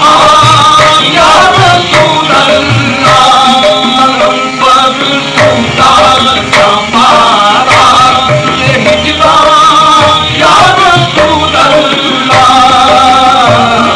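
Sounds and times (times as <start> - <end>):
tabla beats: 0.0 - 13.9
voices singing devotional melody: 0.0 - 13.9.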